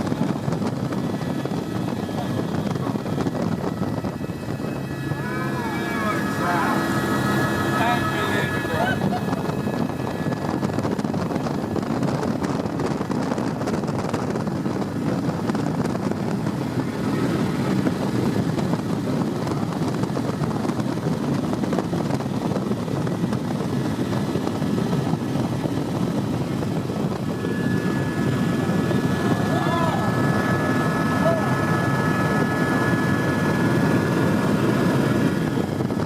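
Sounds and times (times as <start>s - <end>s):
helicopter in flight: 0.0s - 36.0s.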